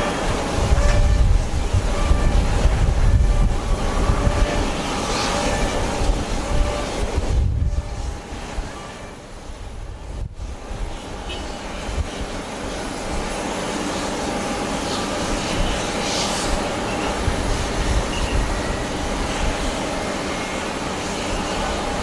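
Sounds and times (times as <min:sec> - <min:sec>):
gusty wind on microphone: 0:00.0 - 0:22.0
jet engines rushing: 0:00.0 - 0:22.0.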